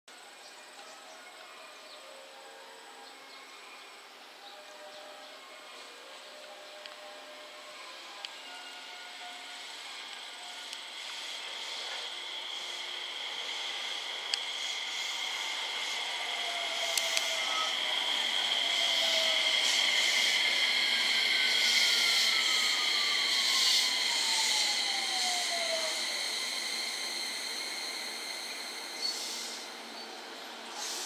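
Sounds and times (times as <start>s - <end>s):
electric train inverter whine: 0.1s - 31.0s
steady high tones: 2.3s - 31.0s.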